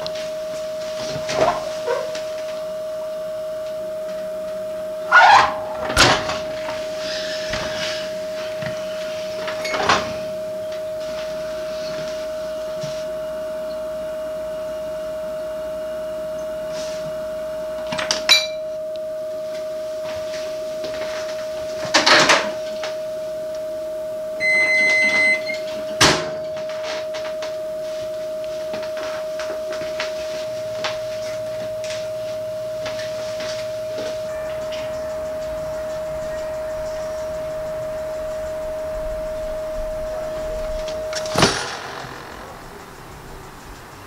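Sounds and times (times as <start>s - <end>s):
microwave oven beep: 0.0s - 44.0s
steady droning tone: 0.0s - 44.0s.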